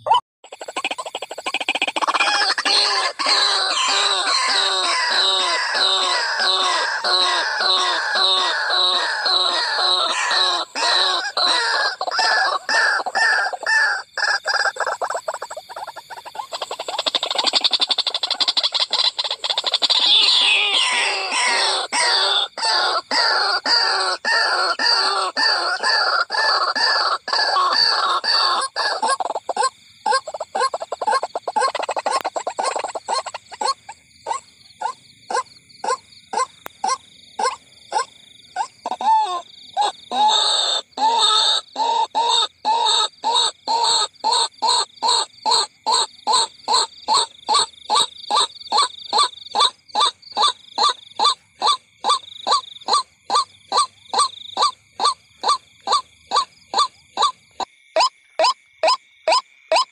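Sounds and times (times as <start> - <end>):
waterhen calling: 0.0 - 59.9.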